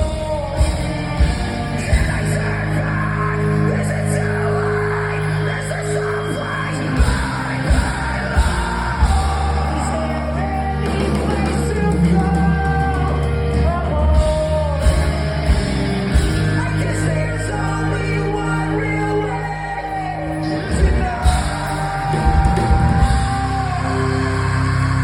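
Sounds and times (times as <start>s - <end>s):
bass guitar: 0.0s - 25.0s
distorted electric guitars: 0.0s - 25.0s
drums: 0.0s - 25.0s
person singing and yelling: 0.0s - 25.0s.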